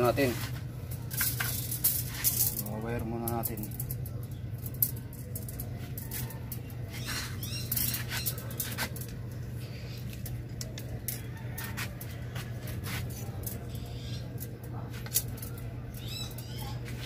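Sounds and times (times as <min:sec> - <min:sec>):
steady low hum: 0:00.0 - 0:17.0
wire clicking and rattling: 0:00.0 - 0:17.0.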